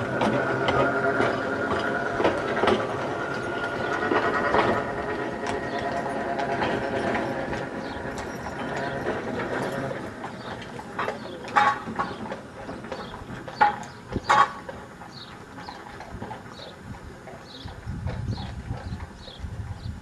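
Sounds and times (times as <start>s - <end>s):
horse hooves clopping on tarmac: 0.0s - 20.0s
steady mechanical whine: 0.0s - 20.0s.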